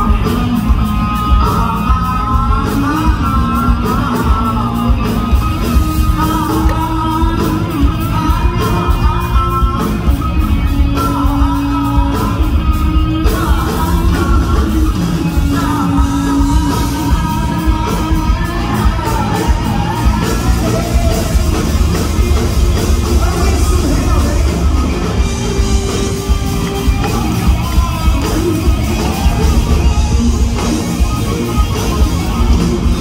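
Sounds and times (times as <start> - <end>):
lead singer vocals: 0.0 - 33.0
live hard rock band: 0.0 - 33.0.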